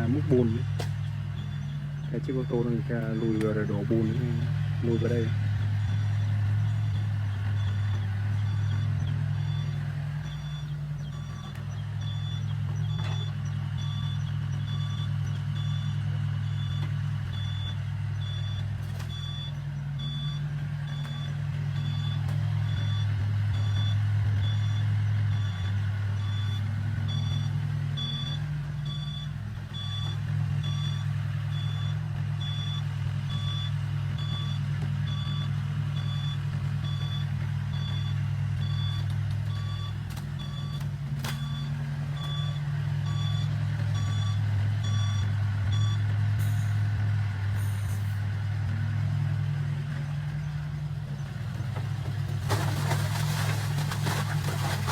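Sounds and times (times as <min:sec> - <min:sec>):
heavy engine running: 0:00.0 - 0:54.9
truck reversing alarm beeping: 0:00.0 - 0:54.9.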